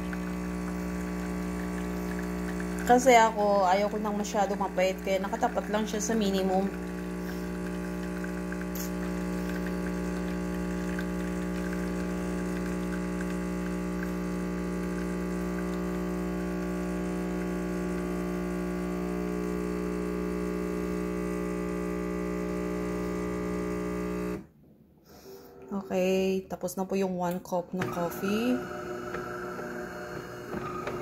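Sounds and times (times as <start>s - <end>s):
coffee running into cup: 0.0s - 24.4s, 27.8s - 31.0s
coffee machine pump humming: 0.0s - 24.5s, 27.5s - 31.0s.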